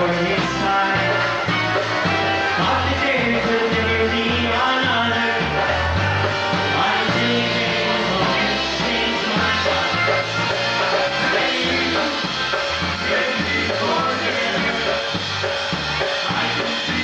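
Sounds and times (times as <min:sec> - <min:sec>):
polka band playing: 0:00.0 - 0:17.0
stepping bass line: 0:00.0 - 0:17.0.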